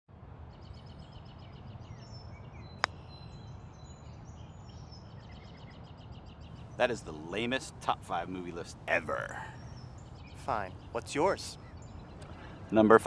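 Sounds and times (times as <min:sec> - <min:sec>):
birds chirping: 0:00.5 - 0:13.0.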